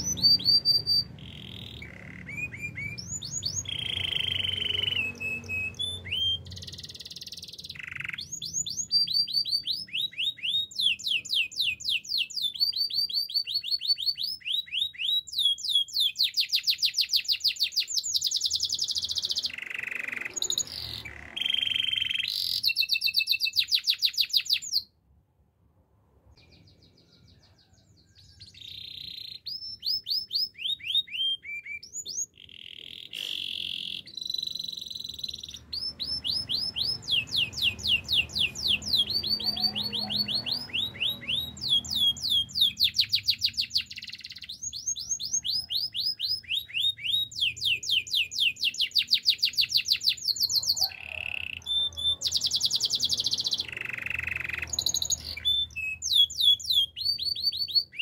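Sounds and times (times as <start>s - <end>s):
canary singing trills: 0.0s - 24.9s, 26.4s - 58.0s.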